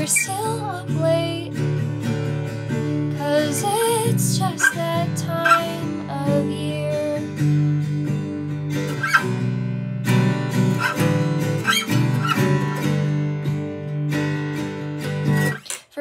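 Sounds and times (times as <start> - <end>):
acoustic guitar strumming: 0.0 - 15.7.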